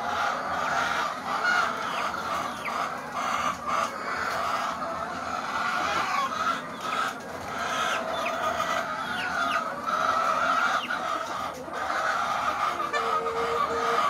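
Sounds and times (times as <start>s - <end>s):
hens clucking: 0.0s - 14.0s
hens squawking: 0.0s - 14.0s.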